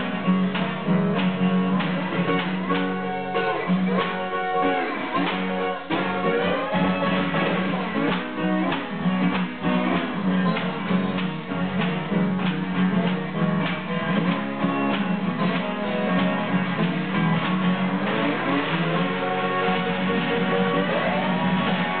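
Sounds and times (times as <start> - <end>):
acoustic guitars playing blues: 0.0 - 22.0
slide guitar: 0.0 - 22.0.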